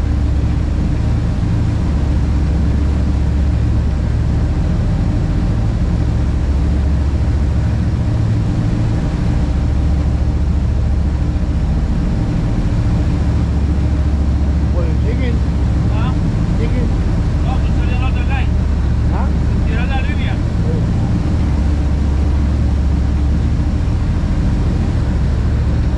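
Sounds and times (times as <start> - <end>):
boat engines droning: 0.0 - 25.9
rushing boat wake: 0.0 - 25.9.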